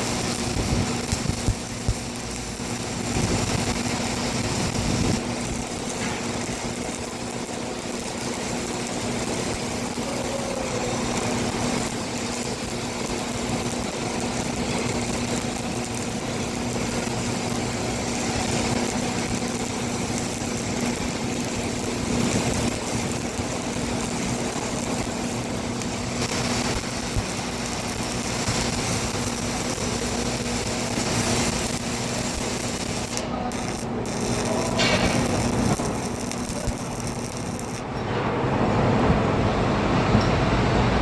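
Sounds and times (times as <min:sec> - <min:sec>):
arc welding crackling hiss: 0:00.0 - 0:37.9
steady hum: 0:00.0 - 0:41.0.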